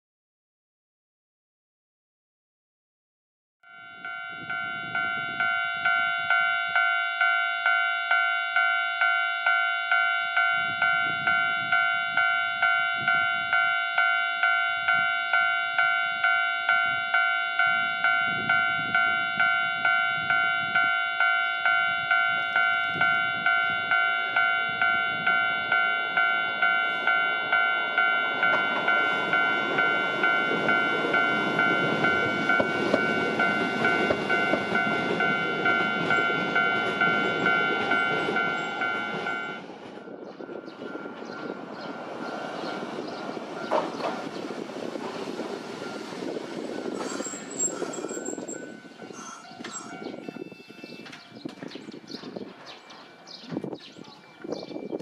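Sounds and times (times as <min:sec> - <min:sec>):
level-crossing warning bell ringing: 0:03.6 - 0:55.0
tram wheels and motors: 0:03.7 - 0:55.0.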